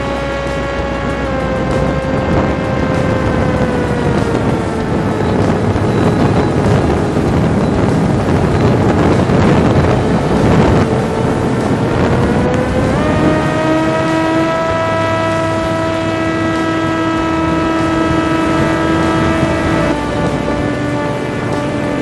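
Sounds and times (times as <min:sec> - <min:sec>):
model plane motor droning: 0:00.0 - 0:22.0
wind rush on microphone: 0:00.0 - 0:22.0.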